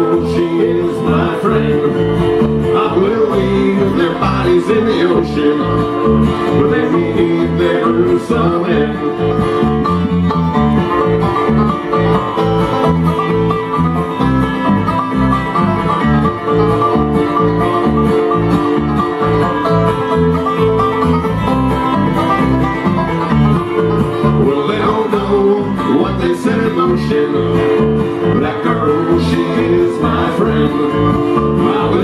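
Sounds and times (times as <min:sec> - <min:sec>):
banjo and guitar picking: 0:00.0 - 0:32.0
bluegrass band instrumental: 0:00.0 - 0:32.0
low bass line: 0:00.0 - 0:32.0.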